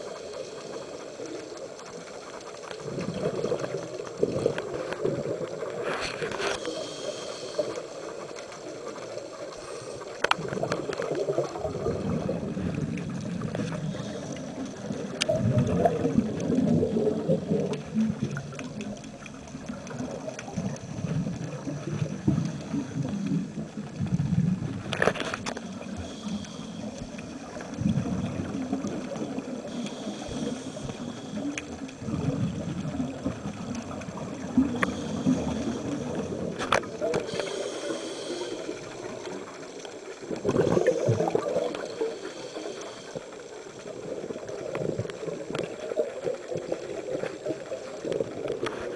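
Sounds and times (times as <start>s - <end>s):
underwater bubbles gurgling: 0.0s - 48.9s.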